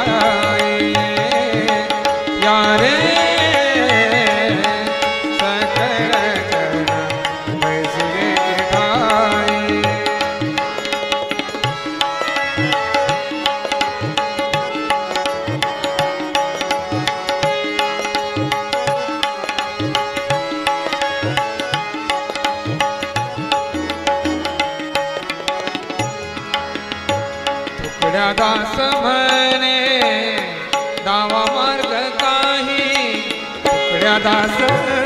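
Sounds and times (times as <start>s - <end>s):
harmonium: 0.0s - 35.0s
tabla rhythm: 0.0s - 35.0s
violin melody: 0.0s - 35.0s.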